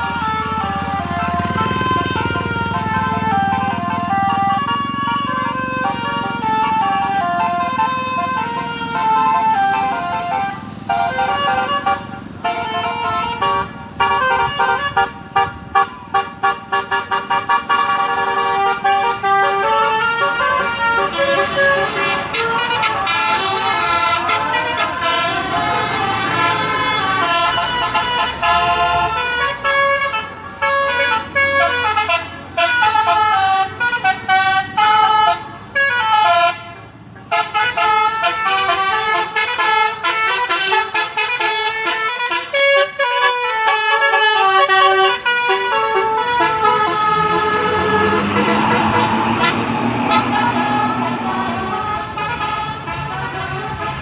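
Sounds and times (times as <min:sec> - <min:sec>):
musical air horn melody: 0:00.0 - 0:54.0.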